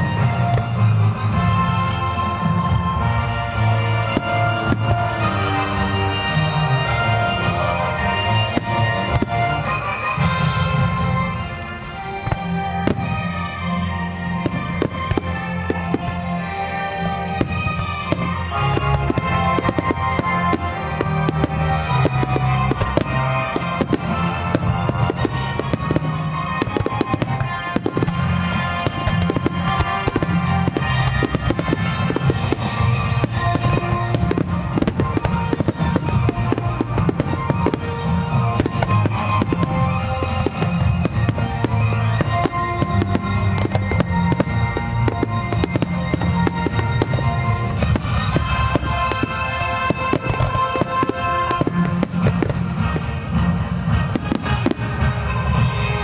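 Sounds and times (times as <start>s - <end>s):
fireworks bangs and crackles: 0.0s - 56.0s
music: 0.0s - 56.0s.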